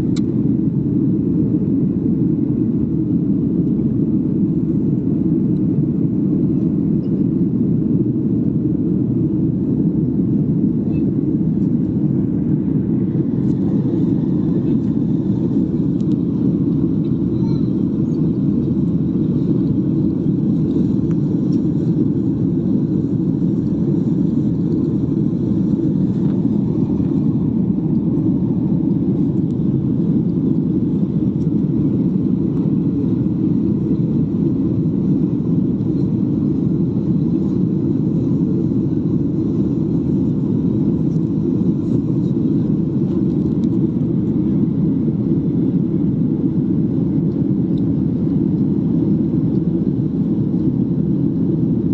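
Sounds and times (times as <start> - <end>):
jet airliner cabin rumble: 0.0 - 51.9.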